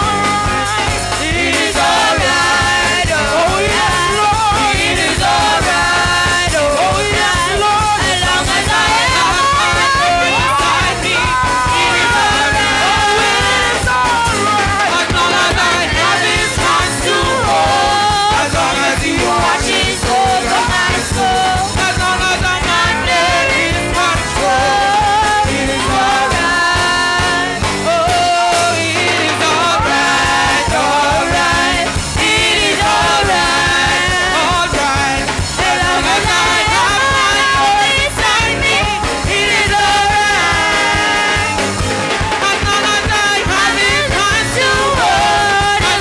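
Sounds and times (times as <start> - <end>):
drum kit: 0.0 - 46.0
guitar: 0.0 - 46.0
singers on microphones: 0.0 - 46.0.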